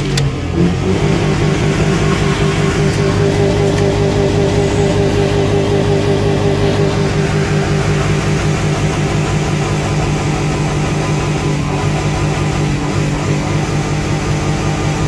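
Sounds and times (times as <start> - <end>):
engine bouncing on rev limiter: 0.0 - 15.0.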